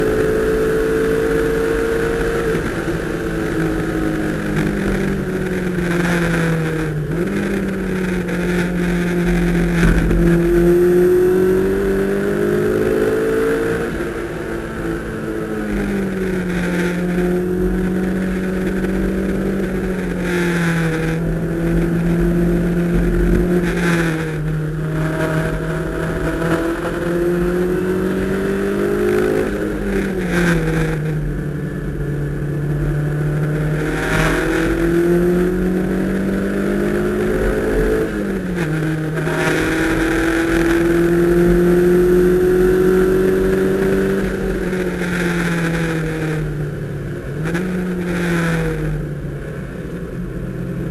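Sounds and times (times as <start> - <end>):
road and wind noise: 0.0 - 50.9.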